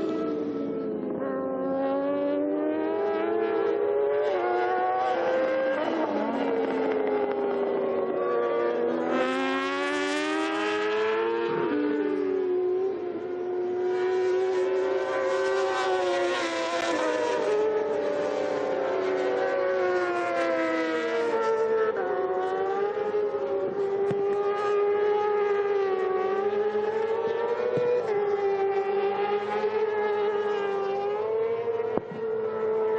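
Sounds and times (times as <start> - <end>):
motorcycle engines revving high: 0.0 - 32.9.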